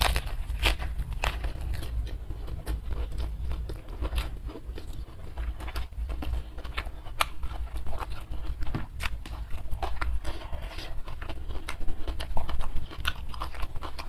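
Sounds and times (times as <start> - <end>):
chewing crisp lettuce: 0.0 - 14.0.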